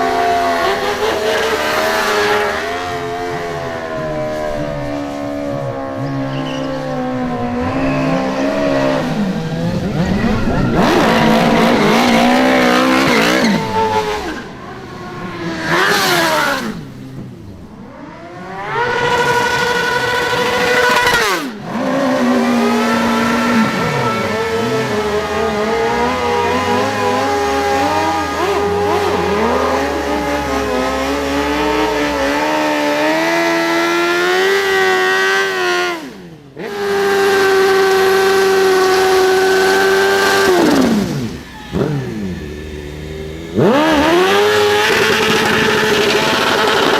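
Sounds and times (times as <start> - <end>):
motorcycle engine revving hard: 0.0 - 46.9.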